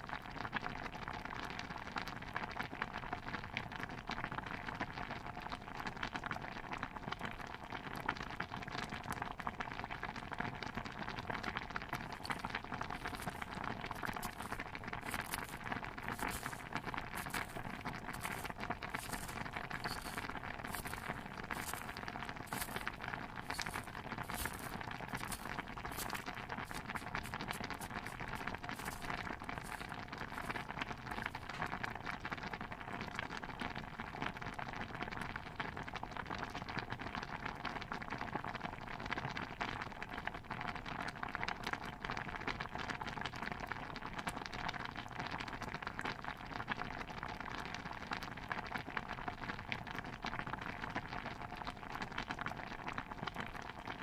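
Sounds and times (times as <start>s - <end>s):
stew bubbling in a pot: 0.0s - 54.0s.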